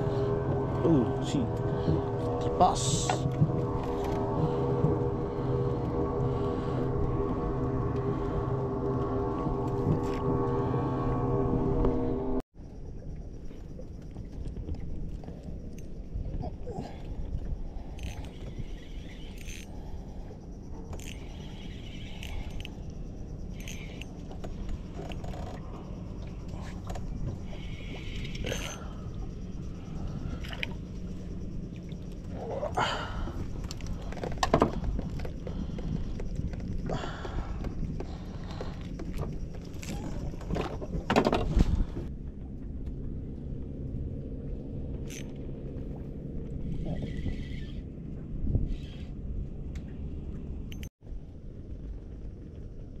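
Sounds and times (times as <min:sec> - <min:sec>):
low engine hum: 0:00.0 - 0:53.0
steady low rumble: 0:00.0 - 0:53.0.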